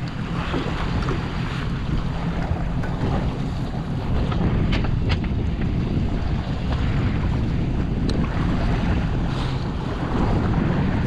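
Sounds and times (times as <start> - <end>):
boat motor running: 0.0 - 11.0
water sounds: 0.0 - 11.0
wind buffeting microphone: 0.0 - 11.0.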